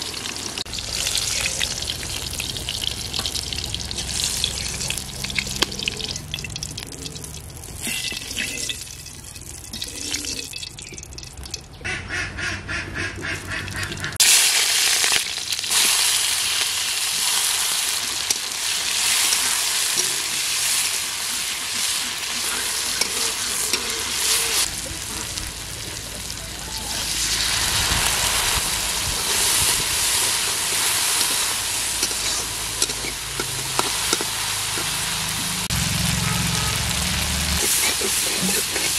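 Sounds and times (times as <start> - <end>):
vegetables sizzling in hot oil: 0.0 - 9.8, 14.2 - 38.9.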